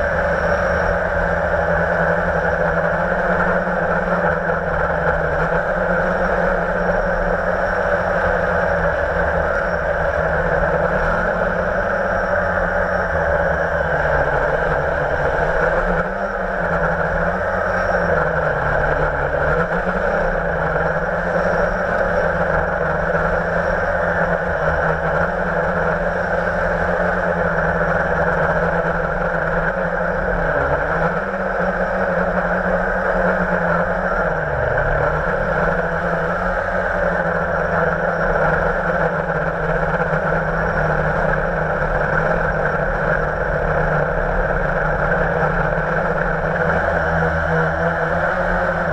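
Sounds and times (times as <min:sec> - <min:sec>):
quadcopter motors whining: 0:00.0 - 0:48.9.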